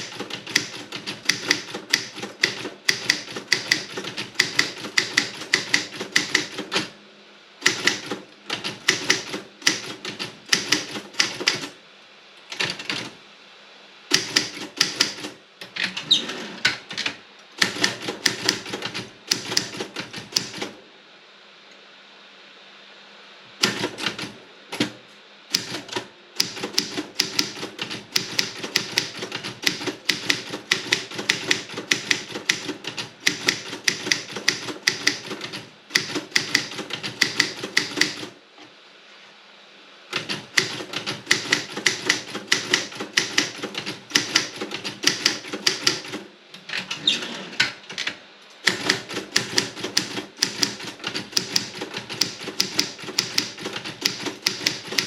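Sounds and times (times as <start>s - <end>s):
typewriter keystrokes: 0.0s - 6.9s, 7.6s - 11.7s, 12.5s - 13.1s, 14.1s - 20.8s, 23.6s - 38.3s, 40.1s - 46.8s, 47.6s - 55.0s.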